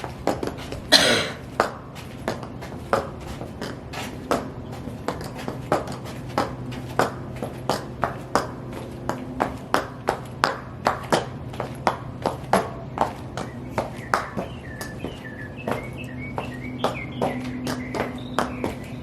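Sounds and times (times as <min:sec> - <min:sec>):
high heels clicking on hard floor: 0:00.0 - 0:19.0.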